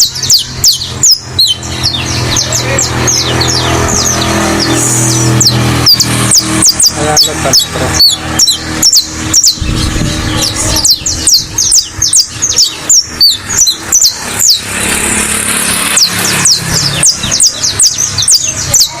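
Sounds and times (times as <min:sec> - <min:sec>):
finch singing: 0:00.0 - 0:19.0.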